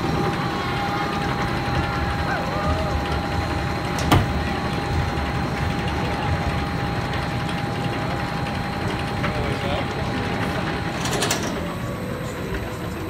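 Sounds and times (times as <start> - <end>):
roller coaster chain lift clatter: 0.0 - 13.0.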